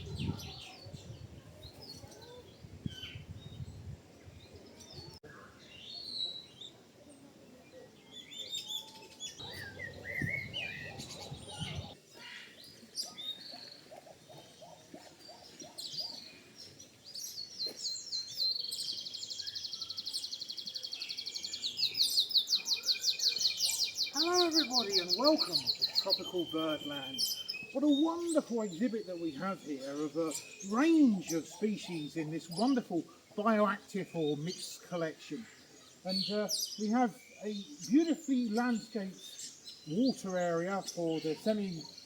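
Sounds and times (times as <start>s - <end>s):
birds chirping and whistling: 0.0s - 3.7s, 8.1s - 42.0s.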